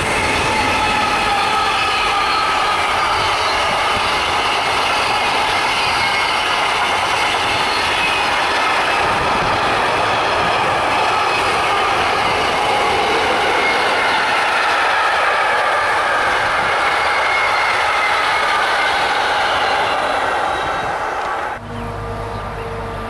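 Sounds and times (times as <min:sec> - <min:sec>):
train wheels rolling on rails: 0:00.0 - 0:21.6.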